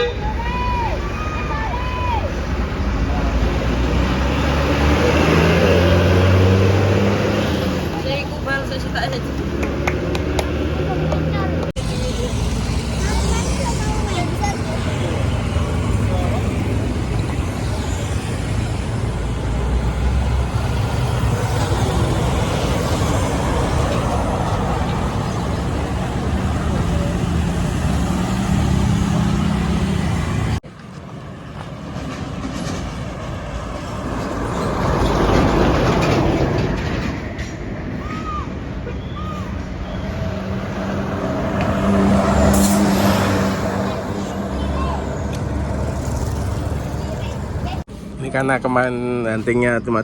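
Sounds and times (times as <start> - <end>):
heavy diesel vehicle passing: 0.0 - 49.8
road traffic noise: 0.0 - 50.0.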